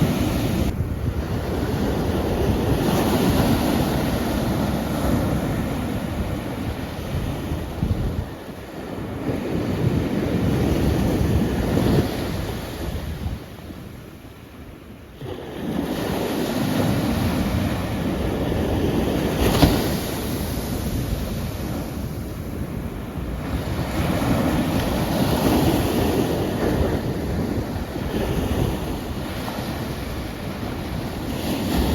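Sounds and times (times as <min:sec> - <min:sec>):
wind buffeting microphone: 0:00.0 - 0:14.1, 0:15.5 - 0:31.9
sea waves breaking on shore: 0:00.0 - 0:14.4, 0:15.0 - 0:31.9.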